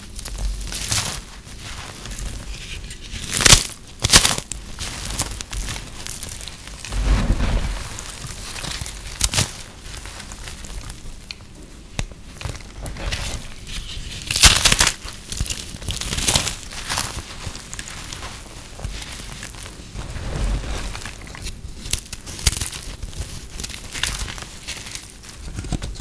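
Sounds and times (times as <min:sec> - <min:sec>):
brittle soap crunching: 0:00.0 - 0:06.9, 0:08.0 - 0:20.0, 0:20.9 - 0:26.0.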